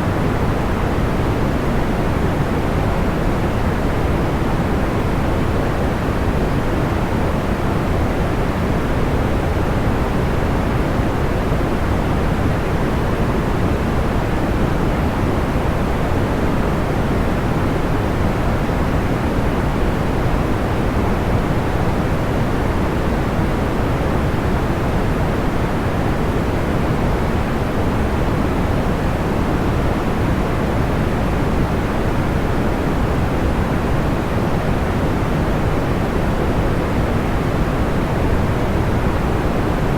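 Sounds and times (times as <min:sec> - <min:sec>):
deep steady pink noise: 0:00.0 - 0:39.9.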